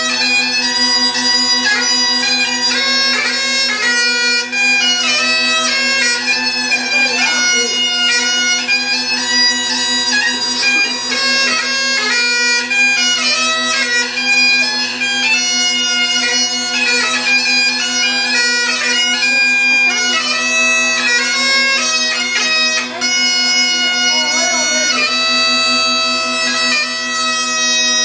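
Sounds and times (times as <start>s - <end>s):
bagpipe playing a tune: 0.0s - 28.0s.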